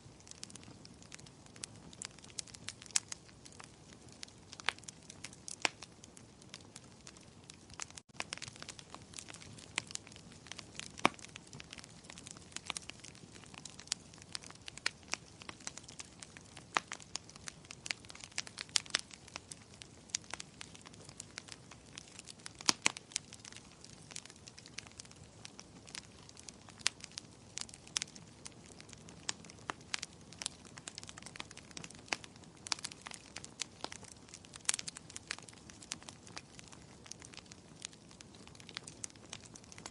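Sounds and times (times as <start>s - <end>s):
soft steady hiss: 0.0s - 39.9s
wood fire crackling: 0.0s - 39.9s.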